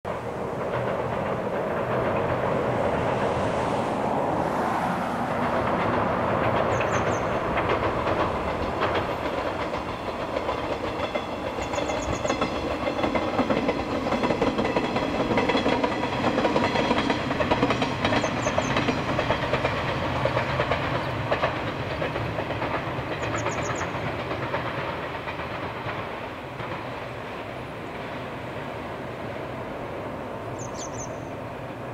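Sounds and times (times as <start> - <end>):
wheels clicking over rail joints: 0.1 - 3.5, 5.2 - 31.9
electric train passing: 0.1 - 31.9.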